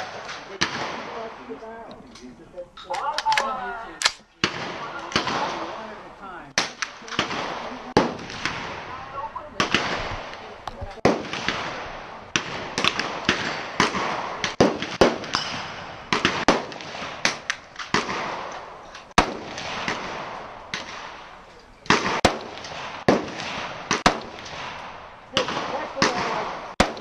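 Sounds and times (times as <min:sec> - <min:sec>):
gunshots with echo: 0:00.0 - 0:01.9, 0:03.2 - 0:27.0.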